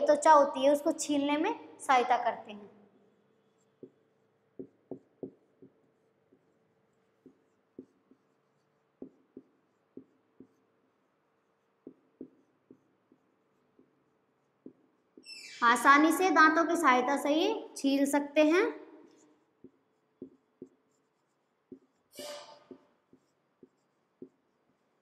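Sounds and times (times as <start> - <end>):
marker pen on whiteboard: 0.0 - 2.3, 2.9 - 25.0.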